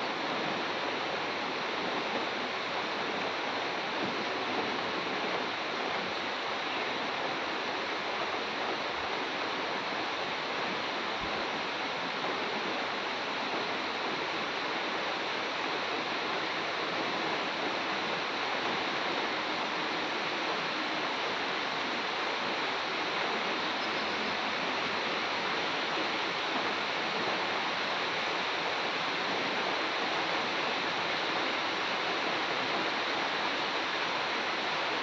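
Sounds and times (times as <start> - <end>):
rain falling on trees: 0.0 - 35.0.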